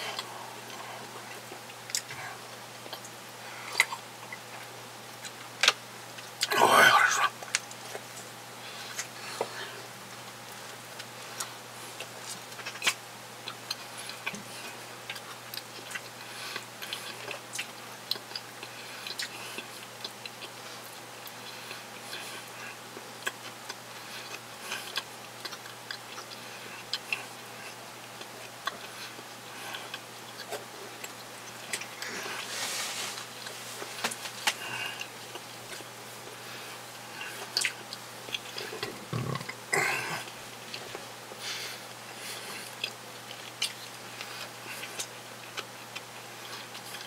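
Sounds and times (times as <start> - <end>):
faint steady hum: 0.0 - 47.0
person chewing food: 0.0 - 47.0.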